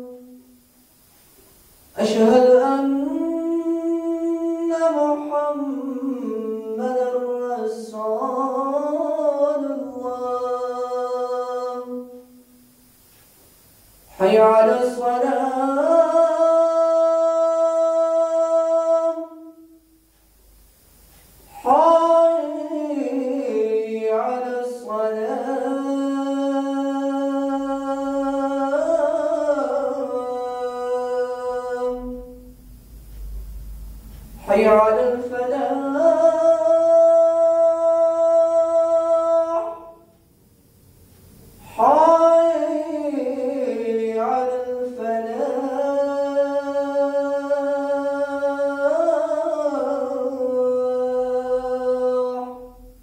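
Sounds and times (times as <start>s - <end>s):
man chanting call to prayer: 2.0s - 12.3s, 14.2s - 19.8s, 21.5s - 32.6s, 34.3s - 40.1s, 41.6s - 53.0s.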